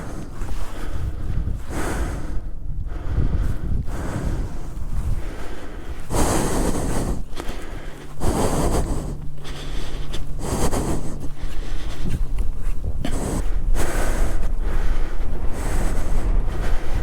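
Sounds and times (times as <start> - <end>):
heavy breathing: 0.0 - 17.0
wind buffeting microphone: 0.0 - 17.0
motorcycle engine hum: 2.6 - 17.0.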